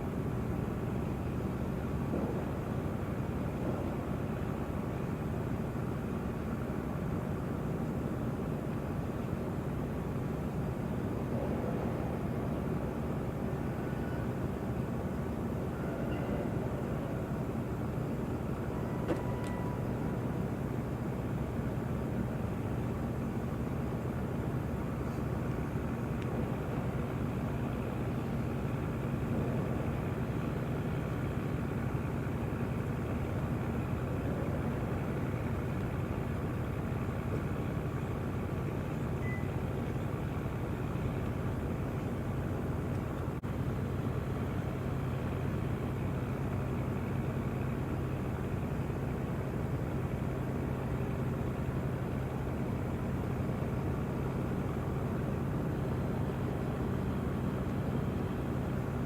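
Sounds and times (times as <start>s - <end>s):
low engine hum: 0.0s - 59.0s.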